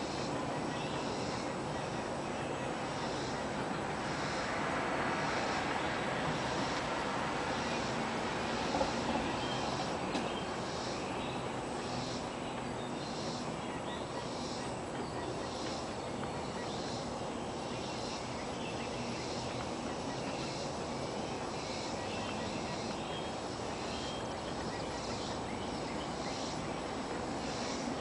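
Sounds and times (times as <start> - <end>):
insects chirping: 0.0 - 28.0
steady hiss: 0.0 - 28.0.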